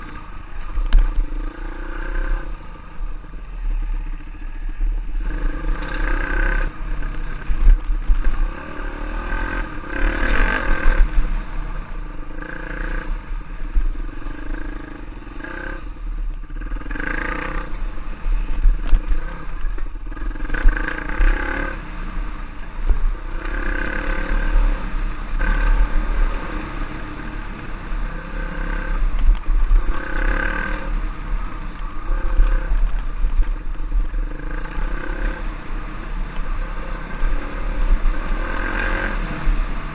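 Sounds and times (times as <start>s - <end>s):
motorbike engine revving: 5.0s - 39.9s.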